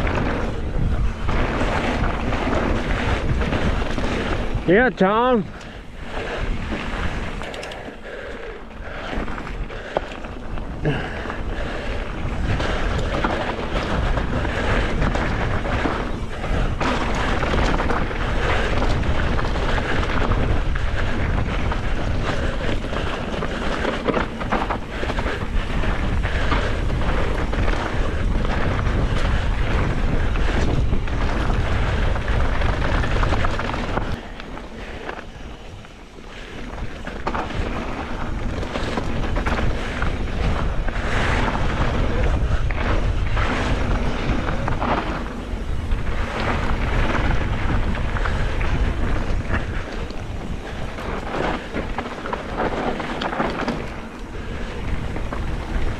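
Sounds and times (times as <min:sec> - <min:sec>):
bike rattling and knocking: 0:00.0 - 0:55.9
bike tyres rolling on dirt: 0:00.0 - 0:55.9
wind rushing over microphone: 0:00.0 - 0:55.9.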